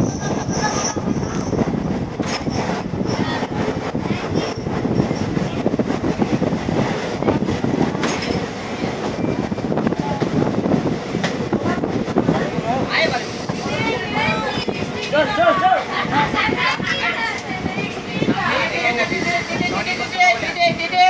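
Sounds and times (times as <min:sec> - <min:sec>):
train coach rattling: 0:00.0 - 0:21.0
train wheels rumbling on rails: 0:00.0 - 0:21.0.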